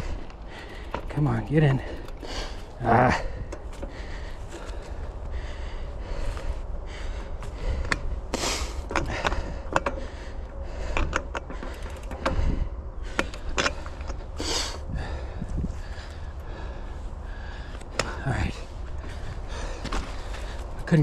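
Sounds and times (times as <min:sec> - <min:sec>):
cleat clicking on pedal: 0:00.0 - 0:05.0, 0:07.4 - 0:16.8, 0:17.4 - 0:21.0
wind rumble on microphone: 0:00.0 - 0:21.0.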